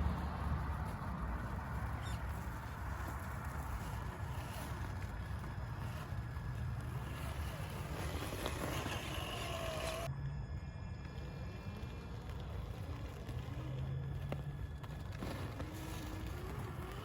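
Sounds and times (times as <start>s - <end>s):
faint whine: 0.0s - 17.0s.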